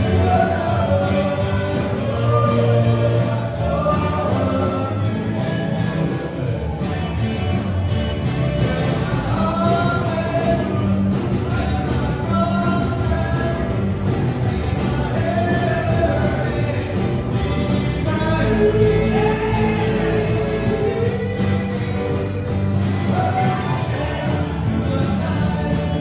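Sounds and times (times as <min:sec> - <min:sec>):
lead singer singing: 0:00.0 - 0:07.6, 0:08.2 - 0:26.0
rock band playing live: 0:00.0 - 0:26.0.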